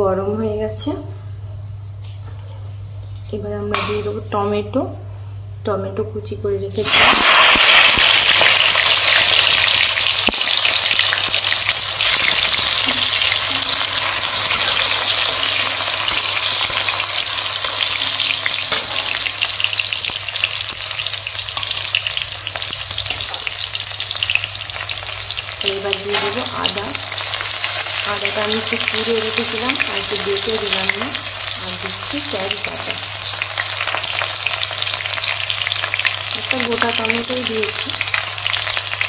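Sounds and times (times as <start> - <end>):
tomatoes sizzling in hot oil: 6.7 - 39.0.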